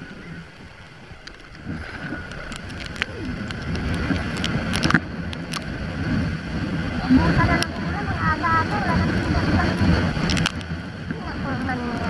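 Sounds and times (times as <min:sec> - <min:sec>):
raindrops ticking on camera: 0:00.0 - 0:05.8, 0:07.0 - 0:12.0
wind buffeting microphone: 0:00.0 - 0:12.0.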